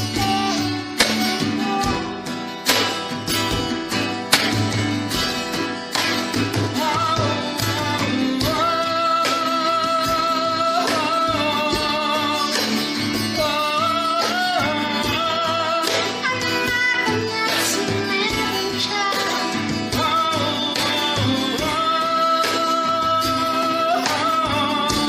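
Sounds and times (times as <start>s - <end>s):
person singing: 0.0s - 3.1s, 6.2s - 25.0s
plucked guitar: 0.0s - 25.0s.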